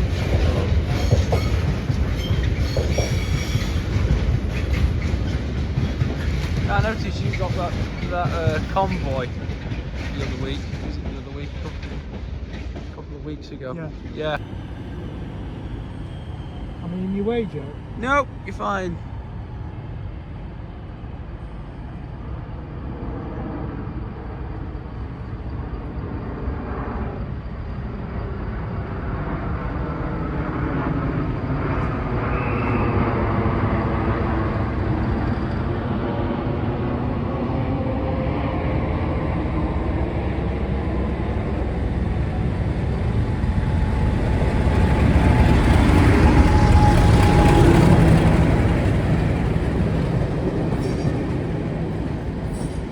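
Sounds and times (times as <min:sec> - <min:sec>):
approaching train hum: 0:00.0 - 0:52.9.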